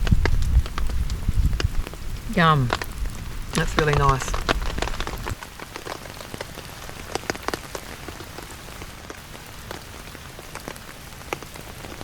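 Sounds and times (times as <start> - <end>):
raindrops tapping close by: 0.0 - 12.0
steady rain falling: 0.0 - 12.0.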